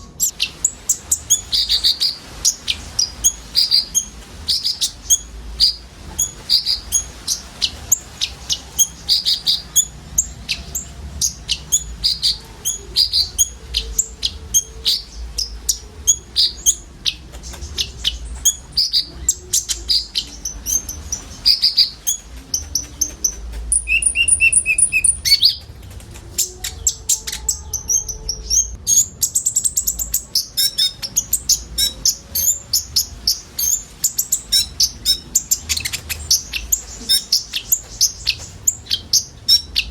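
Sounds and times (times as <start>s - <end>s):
buzzy bird trill: 0.0s - 39.9s
sunbirds chirping: 0.0s - 39.9s.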